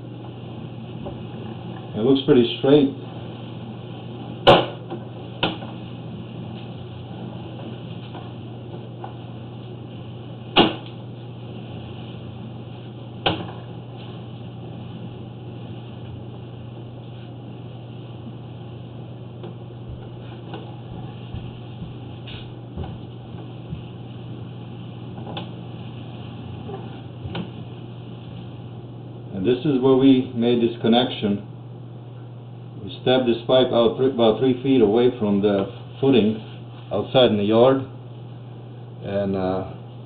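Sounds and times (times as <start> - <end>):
low electrical hum and hiss: 0.0 - 40.0.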